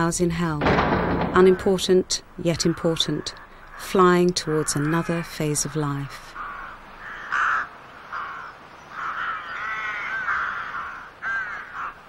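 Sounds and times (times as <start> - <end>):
birds calling harshly: 0.7 - 12.0.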